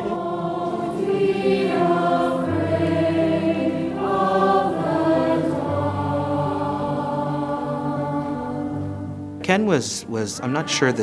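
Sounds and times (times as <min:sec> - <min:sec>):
choir singing in harmony: 0:00.0 - 0:09.4, 0:10.1 - 0:11.0.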